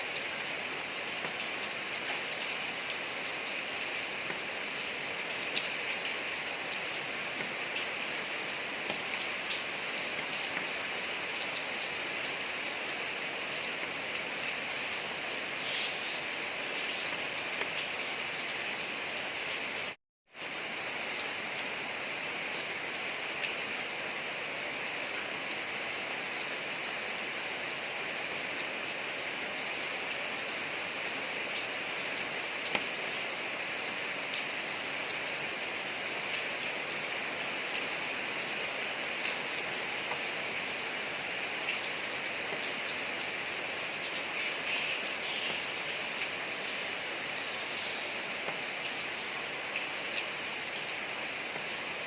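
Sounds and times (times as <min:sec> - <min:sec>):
rain falling on a street: 0:00.0 - 0:52.0.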